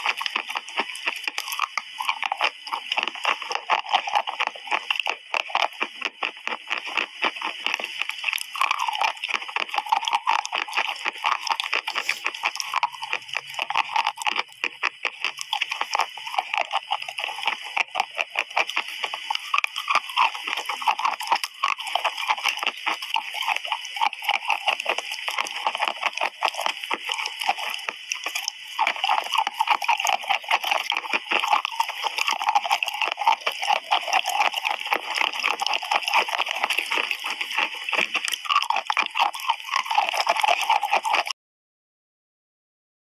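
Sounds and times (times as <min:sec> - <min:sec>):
chewing wet chalk: 0:00.0 - 0:41.4.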